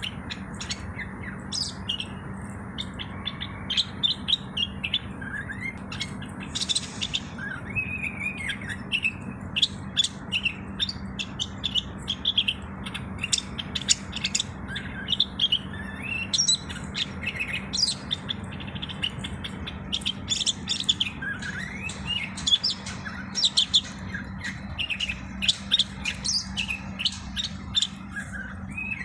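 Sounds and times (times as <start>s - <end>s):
bird chirping and whistling: 0.0s - 29.0s
steady low hum: 0.0s - 29.0s.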